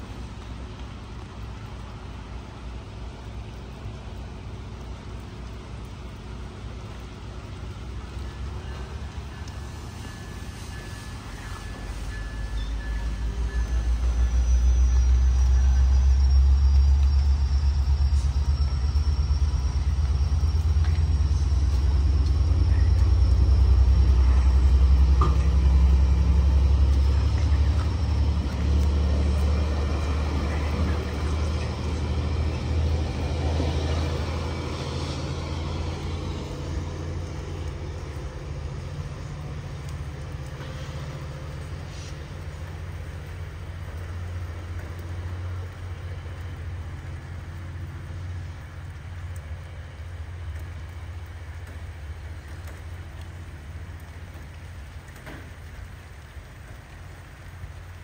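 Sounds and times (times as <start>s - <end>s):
train passing with low rumble: 0.0s - 58.0s.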